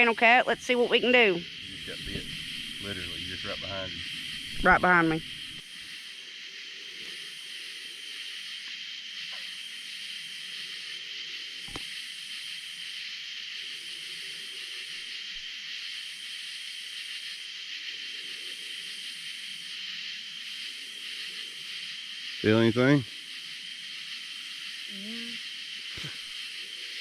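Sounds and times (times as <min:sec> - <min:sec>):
high insect buzz: 0:00.0 - 0:27.0
insect trill: 0:00.0 - 0:27.0.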